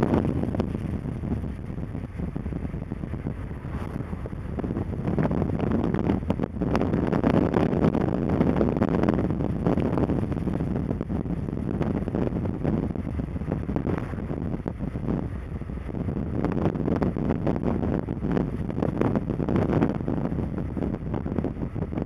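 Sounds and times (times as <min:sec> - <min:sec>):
car road and engine noise: 0:00.0 - 0:22.0
wind buffeting microphone: 0:00.0 - 0:22.0.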